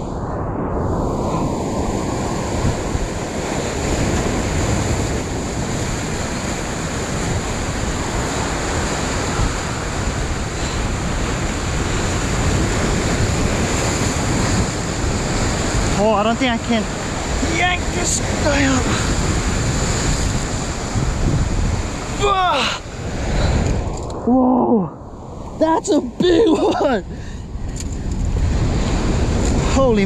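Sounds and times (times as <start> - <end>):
ocean surf breaking on rocks: 0.0 - 30.0
wind noise on microphone: 0.0 - 30.0.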